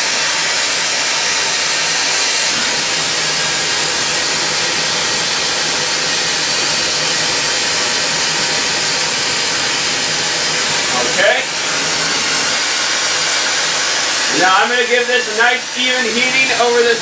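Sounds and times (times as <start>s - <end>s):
torch flame hissing: 0.0s - 17.0s.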